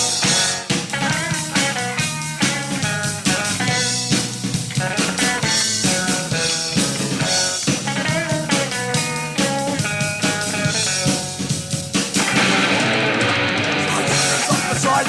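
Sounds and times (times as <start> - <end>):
punk band playing: 0.0 - 15.0.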